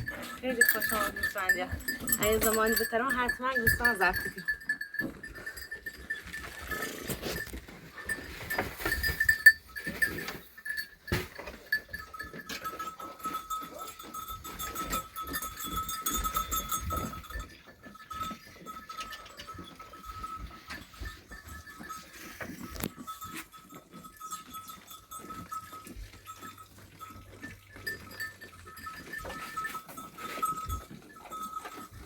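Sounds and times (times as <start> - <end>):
animals knocking and rustling: 0.0 - 32.0.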